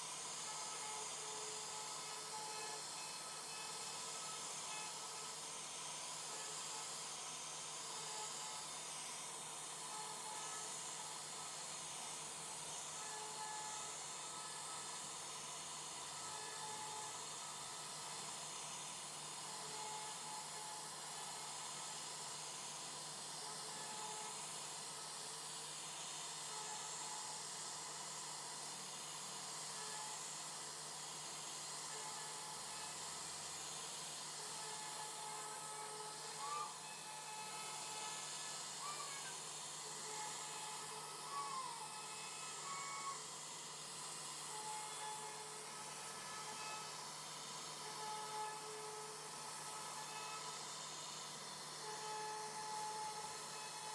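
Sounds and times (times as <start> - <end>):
cnc router carving wood: 0.0 - 53.9.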